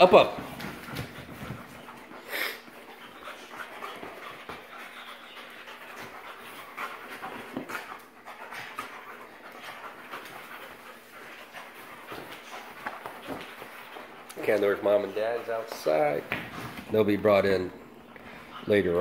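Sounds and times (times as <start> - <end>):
paws scuffling on leather sofa: 0.0 - 17.7
dogs panting: 0.0 - 19.0.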